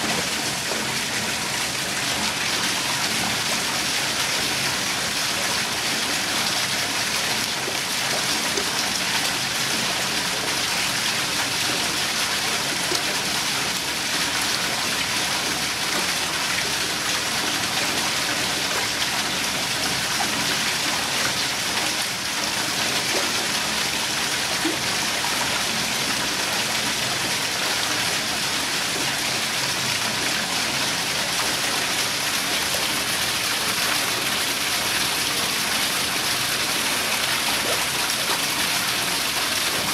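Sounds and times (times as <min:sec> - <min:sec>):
small waterfall pouring into pool: 0:00.0 - 0:39.9.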